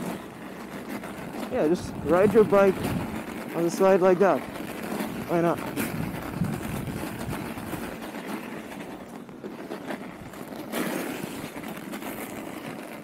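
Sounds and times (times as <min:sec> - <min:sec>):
bicycle tyres on packed snow: 0:00.0 - 0:13.0
wind on microphone: 0:01.0 - 0:13.0.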